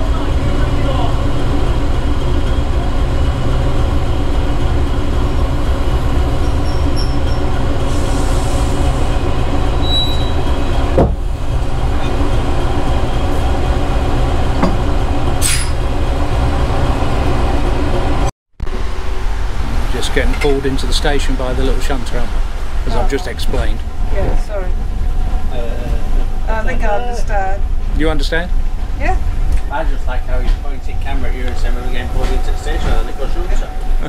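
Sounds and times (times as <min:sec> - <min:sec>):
diesel locomotive engine running: 0:00.0 - 0:34.0.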